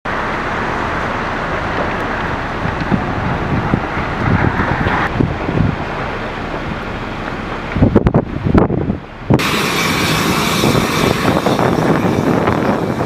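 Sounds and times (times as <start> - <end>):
wind blowing across microphone: 1.4 - 13.0.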